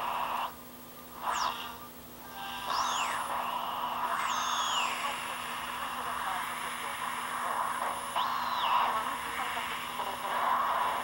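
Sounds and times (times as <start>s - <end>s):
muffled broadcast audio: 0.0s - 11.0s
radio hiss: 0.0s - 11.0s
radio whistles gliding in pitch: 0.0s - 11.0s.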